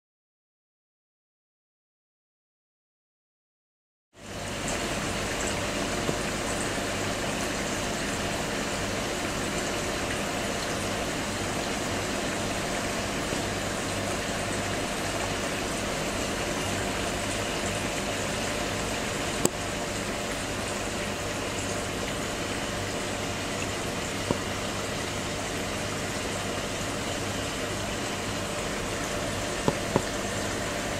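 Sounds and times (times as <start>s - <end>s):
aquarium filter bubbling: 4.2s - 30.9s.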